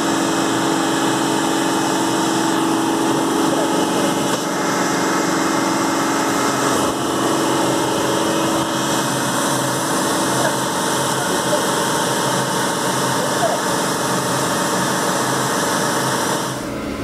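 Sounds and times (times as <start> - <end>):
truck engine and pump running: 0.0 - 17.0
water spraying: 0.0 - 17.0.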